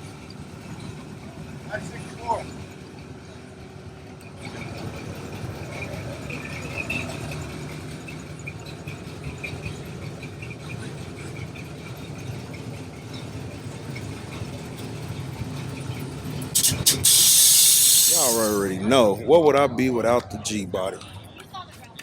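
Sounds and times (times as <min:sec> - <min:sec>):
vehicle engines running: 0:00.0 - 0:22.0.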